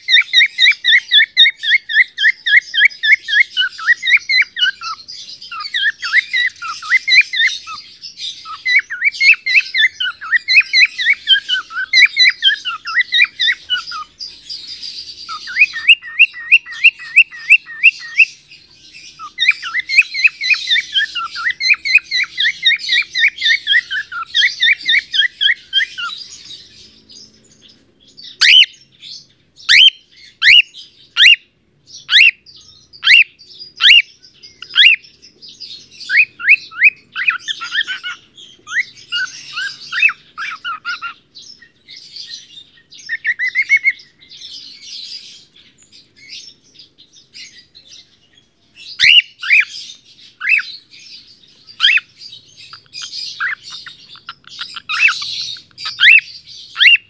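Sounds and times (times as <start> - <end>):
cockatiel chatter: 0.0 - 28.8, 35.7 - 48.2, 48.8 - 57.0
cockatiel chirping: 0.0 - 28.8, 29.6 - 32.4, 33.0 - 35.1, 36.0 - 46.6, 48.8 - 57.0.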